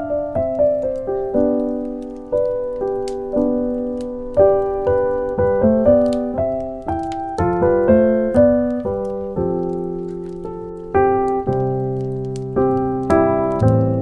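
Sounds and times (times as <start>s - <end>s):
faint fireplace crackles: 0.0s - 14.0s
slow gentle piano melody: 0.0s - 14.0s.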